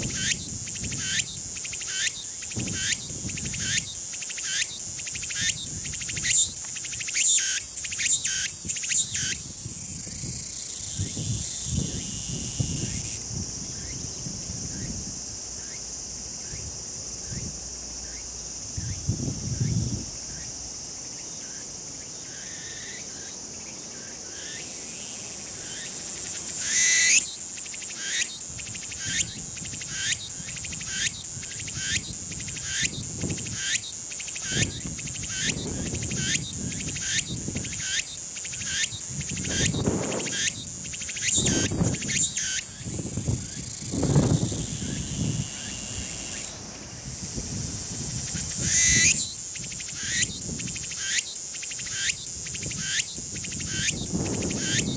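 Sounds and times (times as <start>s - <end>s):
cicada singing: 0.0s - 54.9s.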